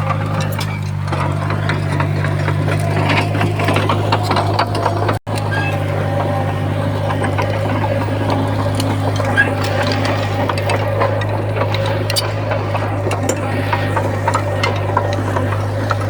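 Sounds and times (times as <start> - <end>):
bulldozer diesel engine: 0.0 - 16.0
tracks and stone clanking: 0.0 - 16.0.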